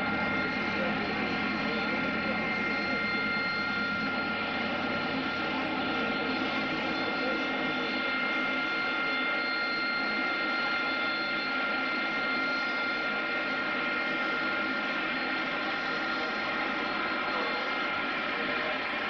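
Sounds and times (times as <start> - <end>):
aircraft engine droning: 0.0 - 19.0.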